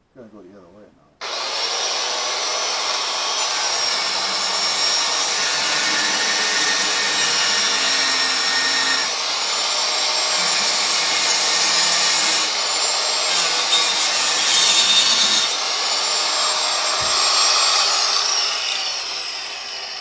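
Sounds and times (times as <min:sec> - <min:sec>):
angle grinder grinding steel: 0:01.2 - 0:20.0.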